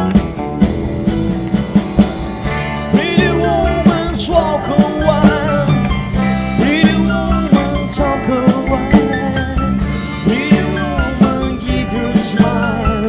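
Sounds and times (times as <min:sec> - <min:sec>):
bass line: 0:00.0 - 0:13.0
drums steady beat: 0:00.0 - 0:13.0.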